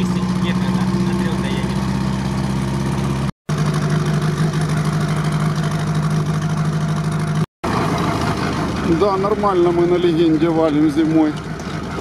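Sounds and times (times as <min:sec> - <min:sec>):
misfiring car engine running: 0:00.0 - 0:12.0.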